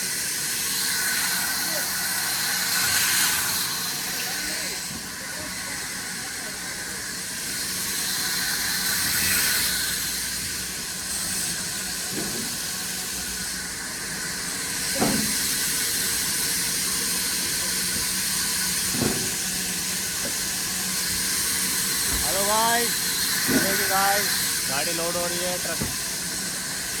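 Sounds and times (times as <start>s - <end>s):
steady hissing machine noise: 0.0s - 27.0s.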